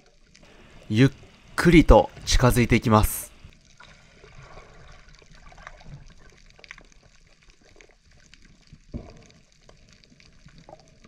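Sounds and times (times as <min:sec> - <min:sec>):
small clicks and crackles underwater: 0:00.0 - 0:02.3, 0:03.3 - 0:11.0.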